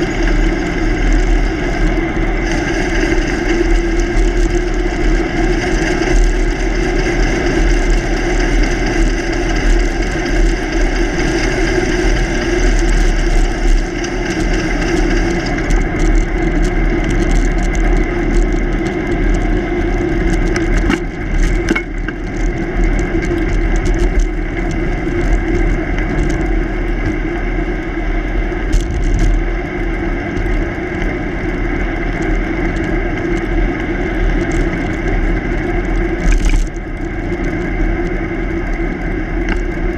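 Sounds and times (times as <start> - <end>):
bicycle road noise on asphalt: 0.0 - 39.9
steady hum: 0.0 - 39.9.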